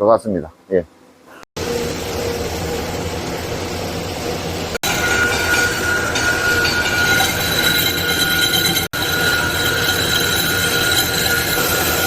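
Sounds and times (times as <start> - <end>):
steady high whine: 1.1 - 12.0
workshop machine noise: 1.3 - 12.0.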